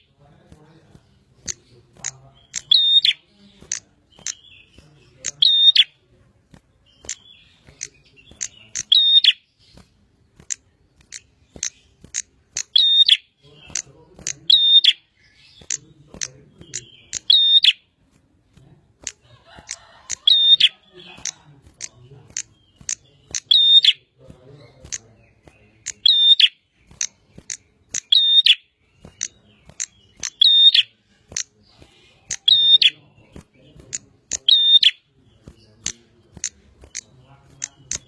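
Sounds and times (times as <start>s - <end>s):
bird calling sharp chips: 0.8s - 38.0s.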